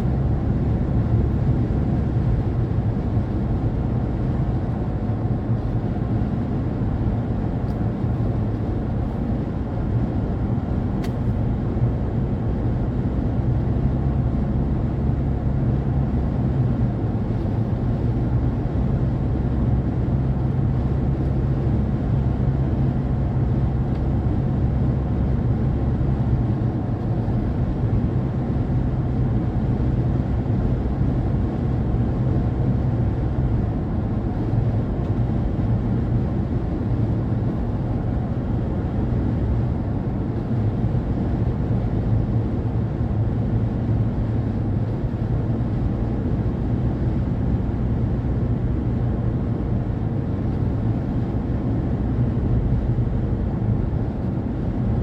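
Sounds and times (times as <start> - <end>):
car engine and tyres rumble: 0.0 - 55.0.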